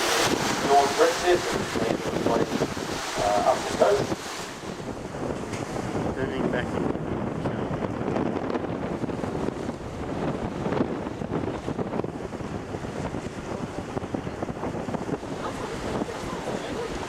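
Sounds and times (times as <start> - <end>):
sea water rushing along hull: 0.0 - 17.0
wind buffeting microphone: 0.0 - 17.0.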